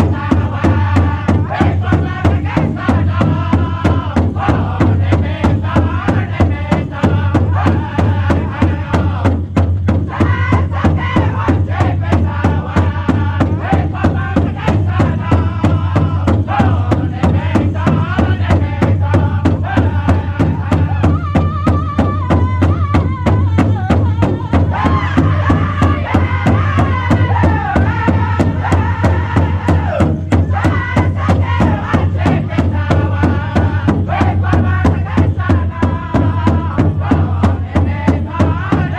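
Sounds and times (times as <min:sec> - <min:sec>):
group singing in unison: 0:00.0 - 0:38.9
large drum beat: 0:00.0 - 0:38.9.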